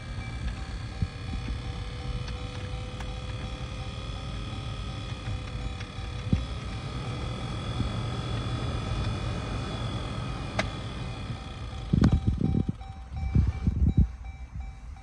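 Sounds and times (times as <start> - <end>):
faint steady tones: 0.0 - 15.0
ventilation blower running: 0.0 - 15.0.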